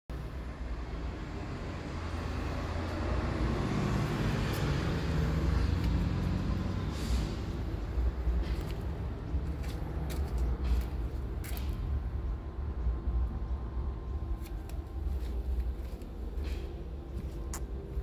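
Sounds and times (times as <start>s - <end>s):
vehicle engine rumbling: 0.1s - 18.0s.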